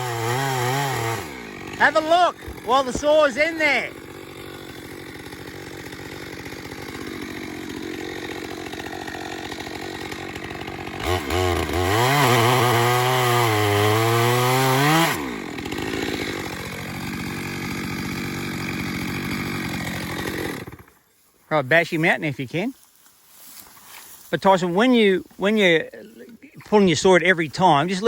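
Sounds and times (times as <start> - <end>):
chainsaw idling and revving: 0.0 - 21.3, 24.5 - 28.0.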